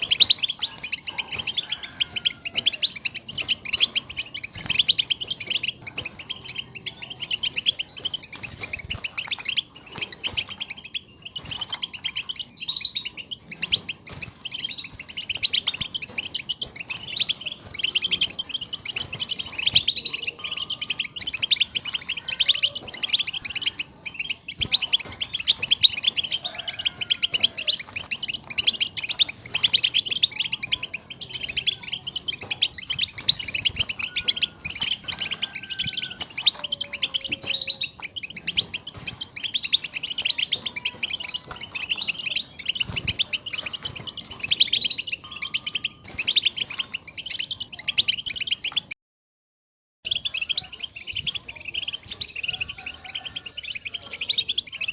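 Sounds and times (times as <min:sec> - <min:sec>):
goldfinch twittering: 0:00.0 - 0:49.0, 0:50.0 - 0:54.9.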